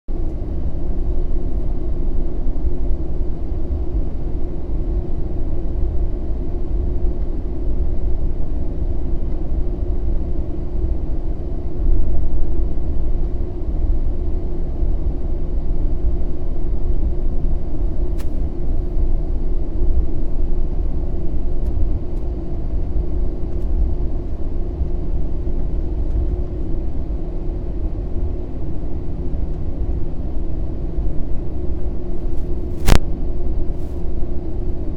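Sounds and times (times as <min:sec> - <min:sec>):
jet engines rumbling in cabin: 0:00.1 - 0:34.9.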